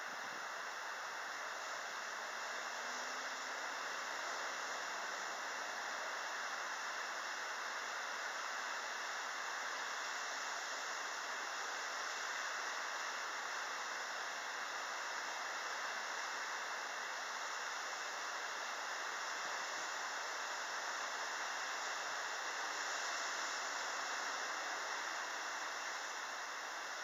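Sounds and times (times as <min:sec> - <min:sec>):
steady even hiss: 0:00.0 - 0:27.0.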